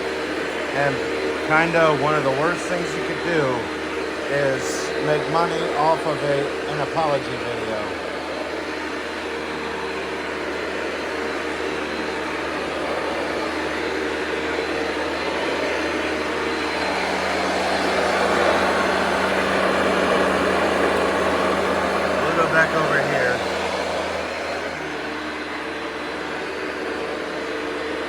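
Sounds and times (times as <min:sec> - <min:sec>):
upright vacuum cleaner running: 0:00.0 - 0:28.0.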